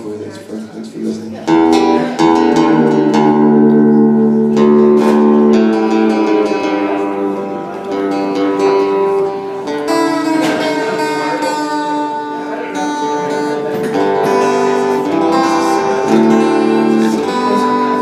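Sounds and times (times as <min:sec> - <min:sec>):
acoustic guitar strumming: 0:01.4 - 0:18.0.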